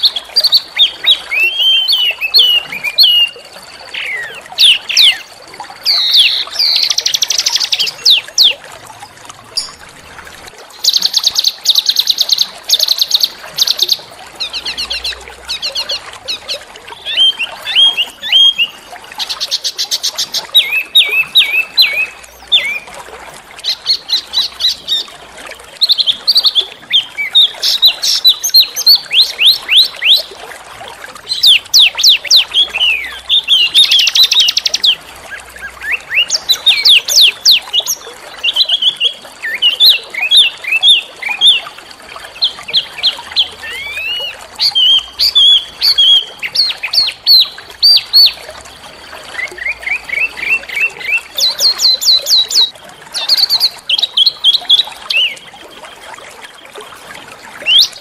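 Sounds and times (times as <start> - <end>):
songbird harsh chirps and trills: 0.0 - 10.0, 10.7 - 58.0.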